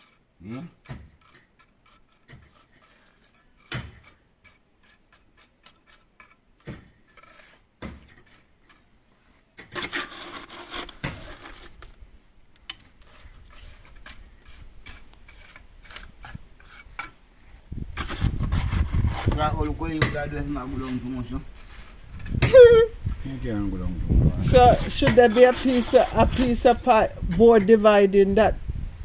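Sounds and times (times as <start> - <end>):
hand tools scraping masonry: 0.0 - 12.0, 12.6 - 17.2, 17.8 - 23.6, 24.2 - 28.5.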